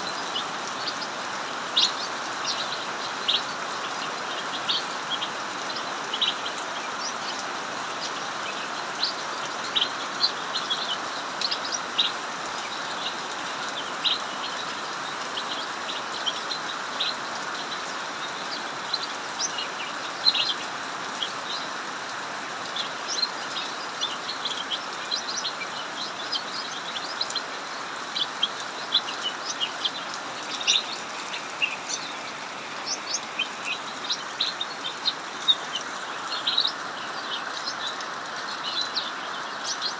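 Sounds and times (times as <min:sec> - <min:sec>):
heavy rain hiss: 0:00.0 - 0:39.9
songbirds chirping: 0:00.0 - 0:39.9.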